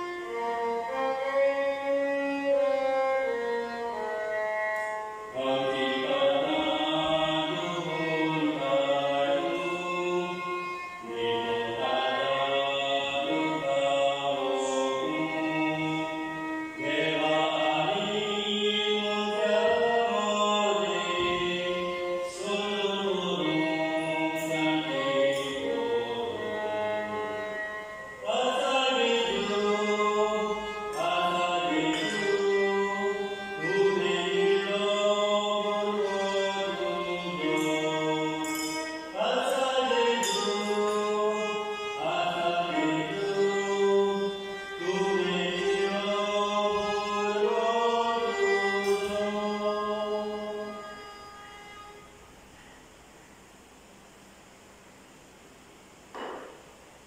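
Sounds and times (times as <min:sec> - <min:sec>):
hymn singing with instruments: 0:00.0 - 0:53.8.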